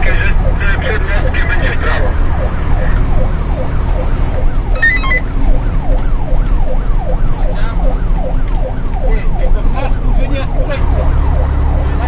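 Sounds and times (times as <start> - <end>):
fire engine siren yelp: 0.0 - 12.0
road noise: 0.0 - 12.0
truck engine rumble: 0.0 - 12.0.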